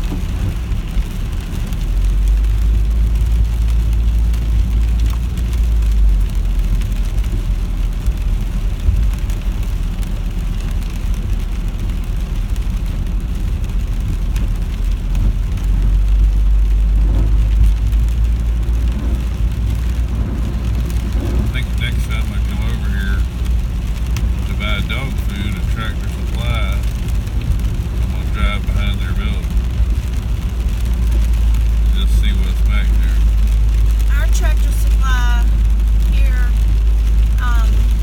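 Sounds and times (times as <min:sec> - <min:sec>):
car engine and road rumble: 0:00.0 - 0:38.0
rain and wet tyres hiss: 0:00.0 - 0:38.0.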